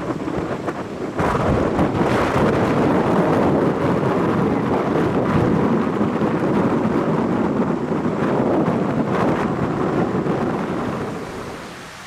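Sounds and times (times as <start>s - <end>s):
strong wind blowing over microphone: 0.0s - 12.0s.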